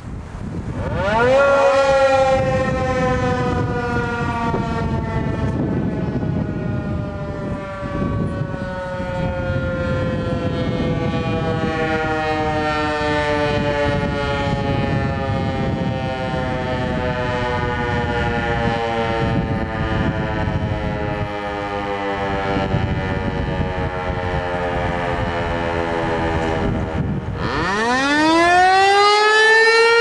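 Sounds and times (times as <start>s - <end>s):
tornado warning siren wailing: 0.0s - 30.0s.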